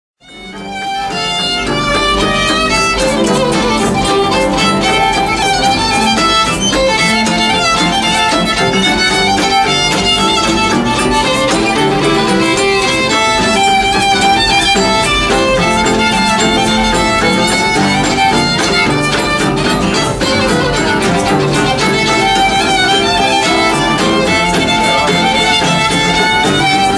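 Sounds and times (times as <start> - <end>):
fiddles playing fast tune: 0.2 - 26.9
guitar accompaniment: 0.2 - 26.9.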